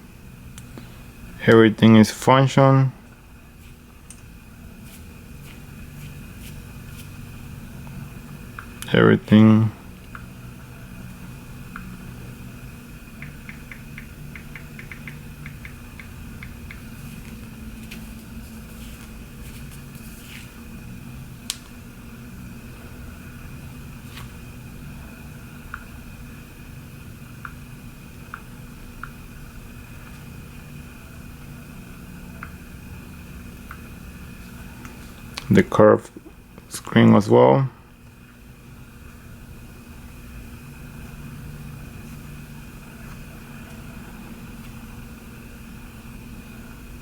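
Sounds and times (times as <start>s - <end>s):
low background hum: 0.0s - 47.0s
thin high whine: 0.0s - 47.0s.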